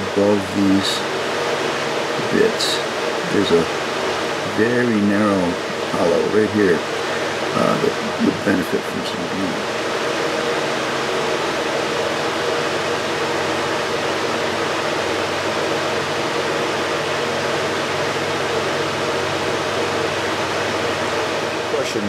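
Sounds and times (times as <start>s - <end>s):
faint hum: 0.0s - 22.0s
steady rushing noise: 0.0s - 22.0s.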